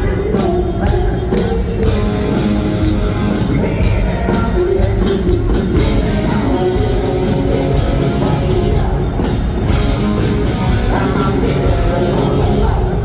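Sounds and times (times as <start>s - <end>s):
live hard rock band: 0.0s - 13.0s.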